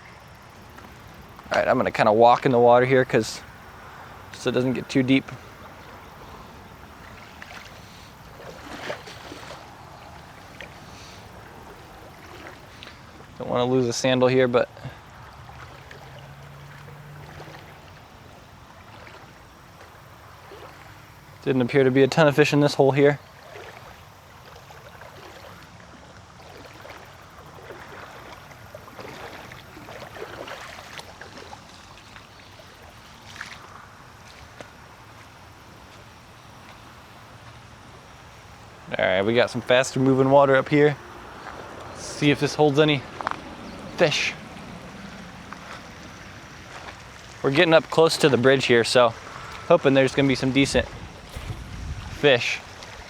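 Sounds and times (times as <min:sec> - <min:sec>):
flowing creek water: 0:00.0 - 0:53.0
water sloshing around feet: 0:00.0 - 0:53.0.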